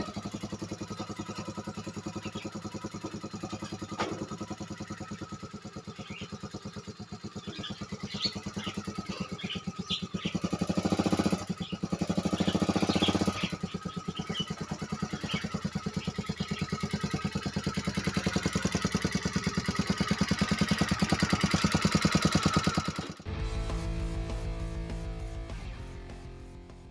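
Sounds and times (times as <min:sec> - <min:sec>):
small motorcycle engine running: 0:00.0 - 0:26.9.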